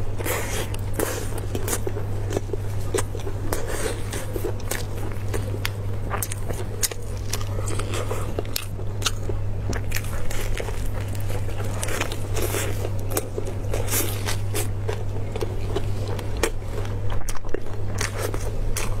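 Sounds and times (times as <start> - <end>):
steady low hum: 0.0 - 19.0
crisp crunching while chewing: 0.2 - 19.0.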